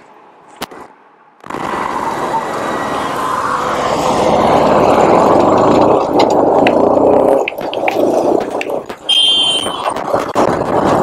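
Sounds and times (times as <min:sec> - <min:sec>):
motorcycle noise: 0:01.4 - 0:11.0
wind rush: 0:01.4 - 0:11.0.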